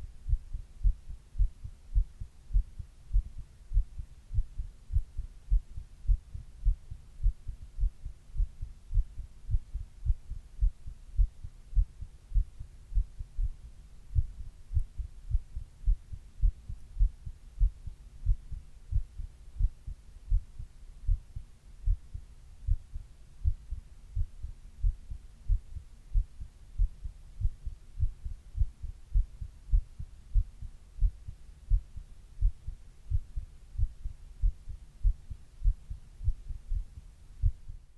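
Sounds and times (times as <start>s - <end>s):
heartbeat thuds: 0.0s - 37.9s.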